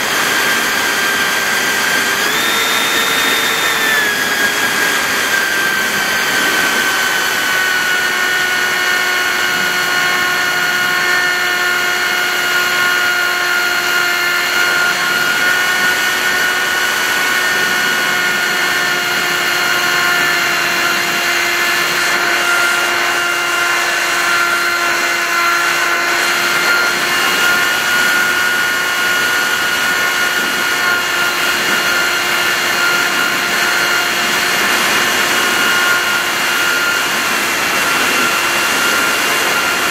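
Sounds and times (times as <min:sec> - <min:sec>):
model plane motor whining: 0:00.0 - 0:39.9.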